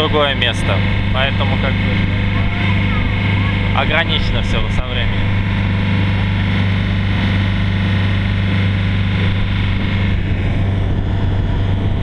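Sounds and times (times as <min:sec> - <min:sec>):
boat engine droning: 0:00.0 - 0:12.0
wind: 0:00.0 - 0:12.0.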